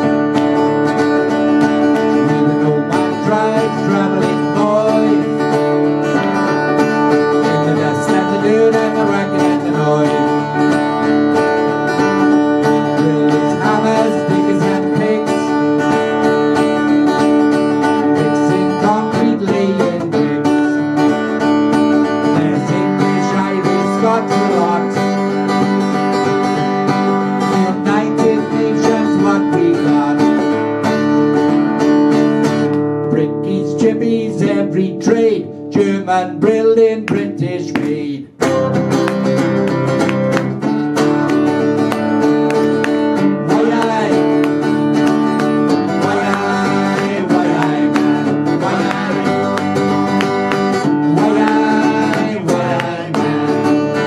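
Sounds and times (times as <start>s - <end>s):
acoustic guitars playing: 0.0s - 54.0s.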